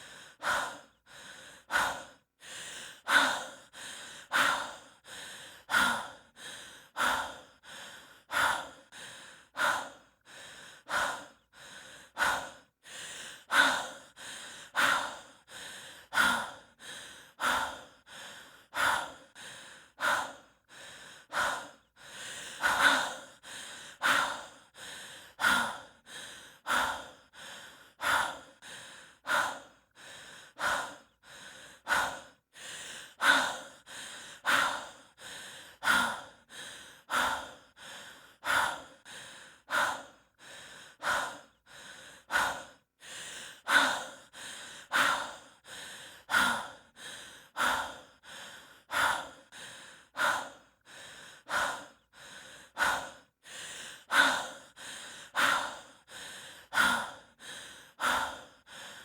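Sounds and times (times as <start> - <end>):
person breathing heavily: 0.0 - 59.0.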